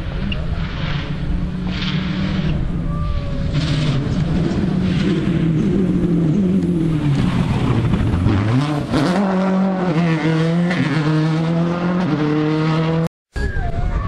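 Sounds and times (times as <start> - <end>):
rally car engine at full throttle: 0.0 - 13.1.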